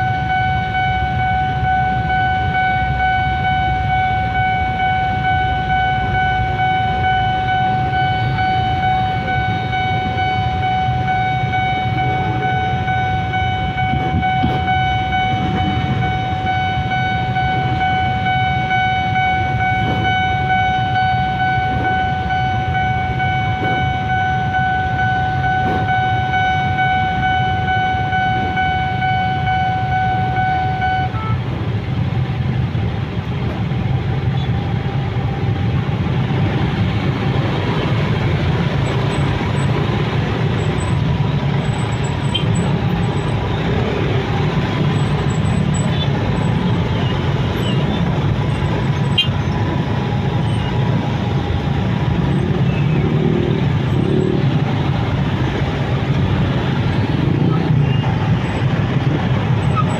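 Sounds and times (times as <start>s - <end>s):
idling engines rumble: 0.0s - 59.9s
level crossing warning tone: 0.0s - 59.9s.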